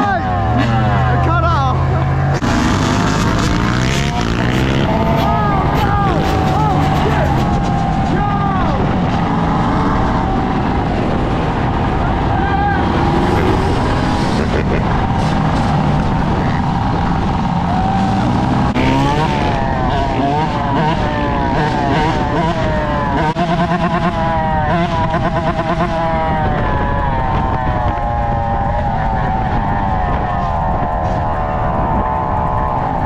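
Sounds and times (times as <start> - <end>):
dirt bike engine revving: 0.0 - 33.0
other dirt bikes and quads: 0.0 - 33.0
wind rushing over microphone: 2.3 - 23.2, 24.0 - 33.0.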